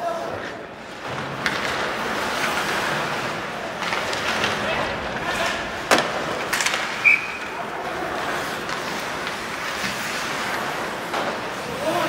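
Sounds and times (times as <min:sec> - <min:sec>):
skates scraping ice: 0:00.0 - 0:12.0
hockey sticks and puck clacking: 0:00.2 - 0:12.0.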